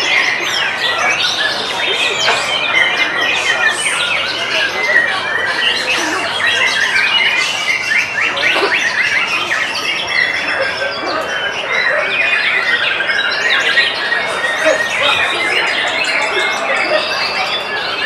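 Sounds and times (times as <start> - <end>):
birds singing in chorus: 0.0 - 18.0.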